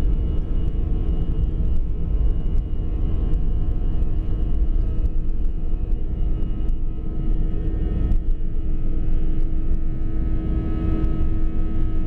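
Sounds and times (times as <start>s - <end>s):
jet engines at takeoff power: 0.0s - 12.0s
low runway rumble: 0.0s - 12.0s
steady hum: 0.0s - 12.0s.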